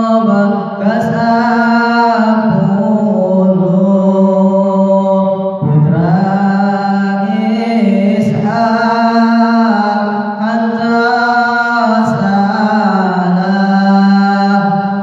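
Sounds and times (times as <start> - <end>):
man chanting through a microphone: 0.0 - 15.0.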